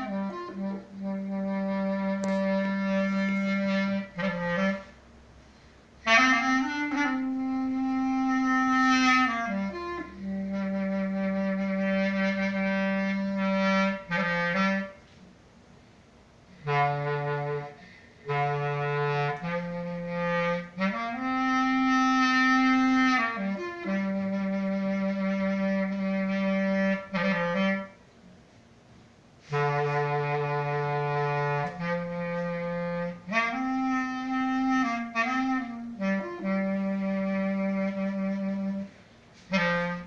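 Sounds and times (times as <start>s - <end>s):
solo clarinet lament: 0.0s - 4.9s, 6.0s - 15.0s, 16.6s - 28.0s, 29.4s - 40.0s.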